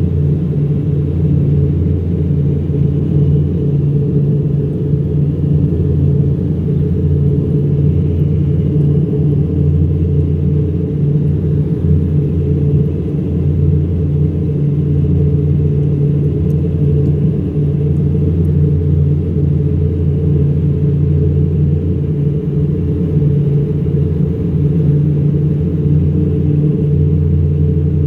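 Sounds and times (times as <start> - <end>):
turboprop engines droning: 0.0 - 28.0.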